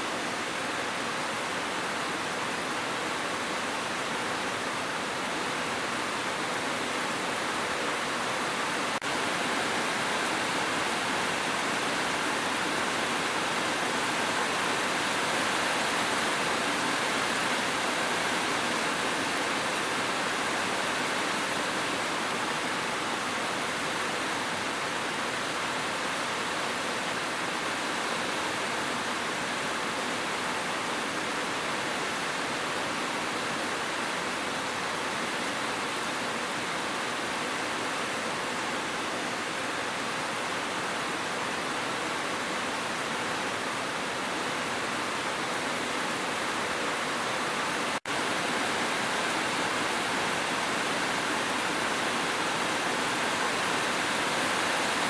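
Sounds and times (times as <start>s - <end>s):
steady dense rain: 0.0s - 55.0s.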